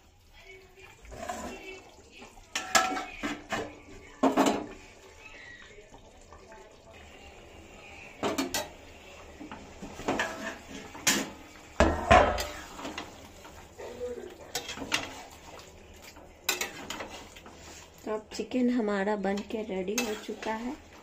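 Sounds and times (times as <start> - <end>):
ladle scraping a pan: 1.0 - 5.8, 7.8 - 18.5, 19.3 - 21.0.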